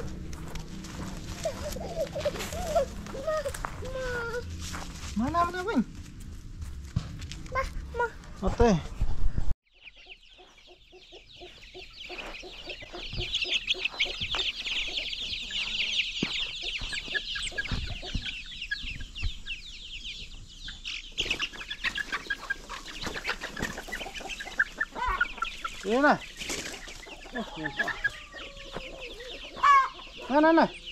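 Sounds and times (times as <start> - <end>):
hen clucking: 0.0 - 4.5, 9.8 - 30.9
chicks peeping: 0.0 - 5.8, 7.5 - 30.9.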